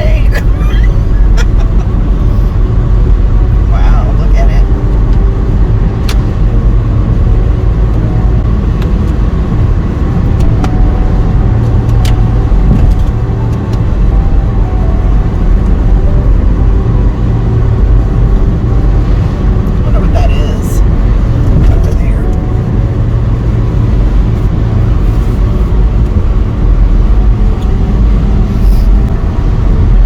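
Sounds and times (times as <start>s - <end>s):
road and engine rumble: 0.0s - 30.0s.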